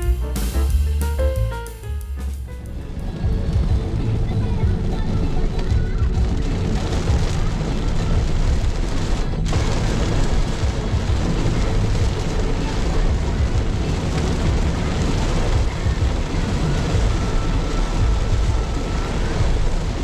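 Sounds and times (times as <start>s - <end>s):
road noise: 2.5s - 20.0s.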